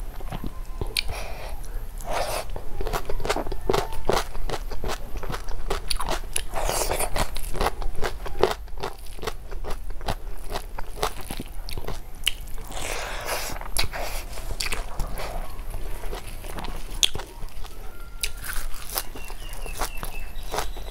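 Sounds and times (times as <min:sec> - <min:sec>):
person chewing and crunching: 0:00.0 - 0:20.9.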